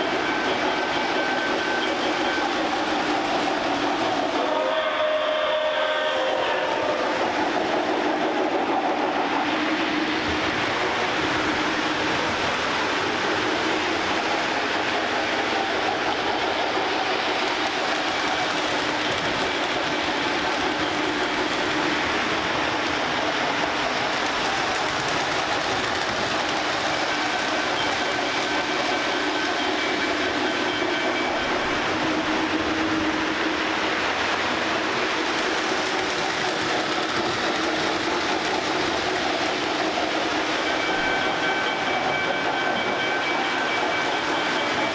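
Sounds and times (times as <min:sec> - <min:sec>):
model trains whirring on track: 0:00.0 - 0:44.9.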